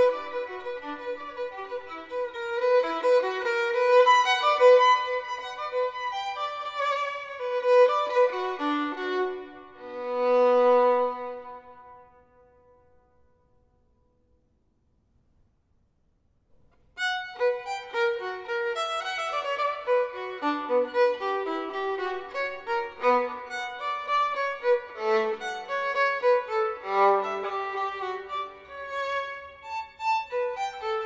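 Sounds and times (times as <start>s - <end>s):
solo violin playing: 0.0s - 12.7s, 17.0s - 31.0s.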